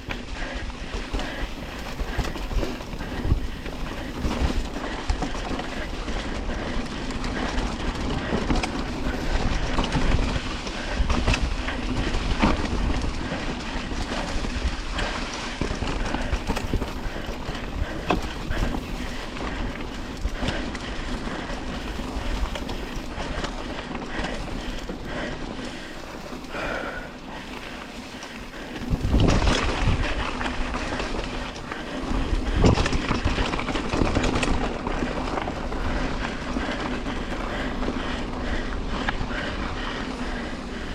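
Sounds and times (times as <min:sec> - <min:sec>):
mountain bike rattling: 0:00.0 - 0:40.9
wind buffeting microphone: 0:00.2 - 0:26.0, 0:28.4 - 0:40.9
tyres rolling over dirt: 0:00.2 - 0:40.9.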